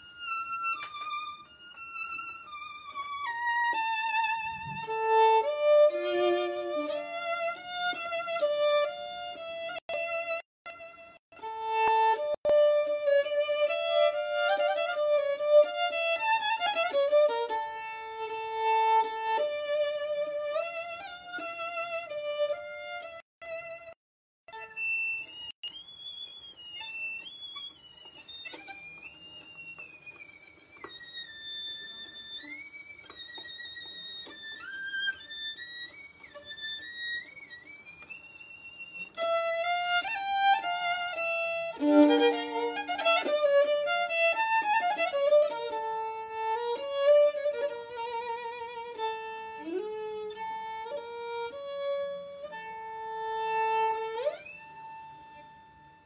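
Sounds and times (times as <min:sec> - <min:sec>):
solo violin melody: 0:00.0 - 0:56.0.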